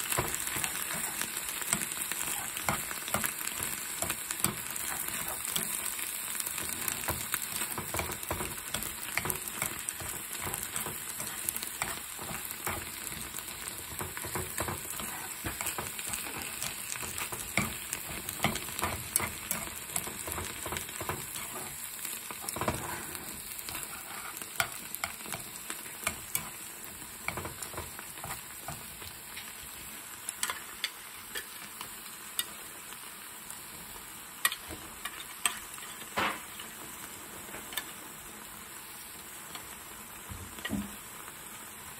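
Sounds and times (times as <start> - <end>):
food sizzling in a frying pan: 0.0 - 41.9.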